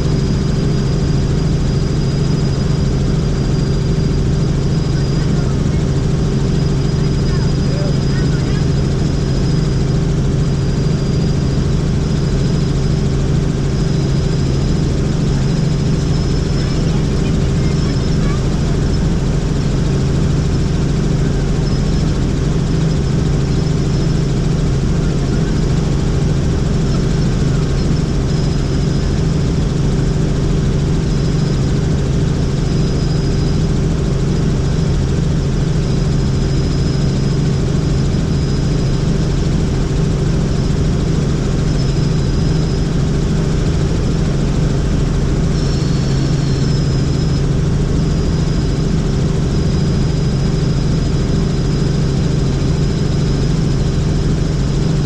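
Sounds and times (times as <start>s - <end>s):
helicopter engine and rotors drone: 0.0s - 55.0s
thin high whine: 0.0s - 55.0s.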